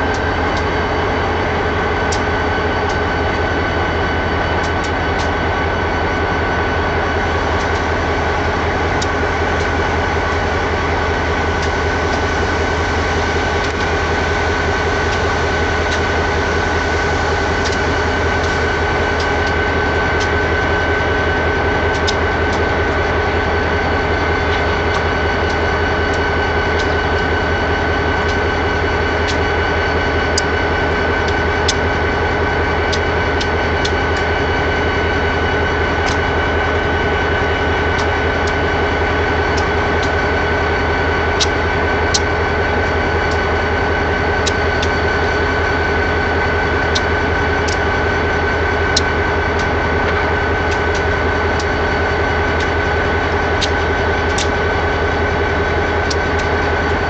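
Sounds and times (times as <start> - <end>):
high whine: 0.0 - 57.0
locomotive engine idling: 0.0 - 57.0.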